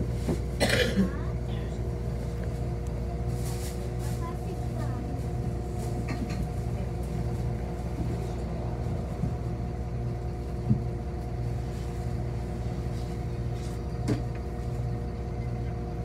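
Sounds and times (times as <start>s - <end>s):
bus driving rumble: 0.0s - 16.0s
constant hum: 0.0s - 16.0s.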